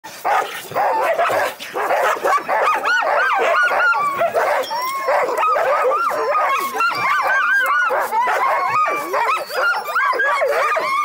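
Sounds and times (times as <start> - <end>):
sled dogs barking and yipping: 0.1 - 11.0.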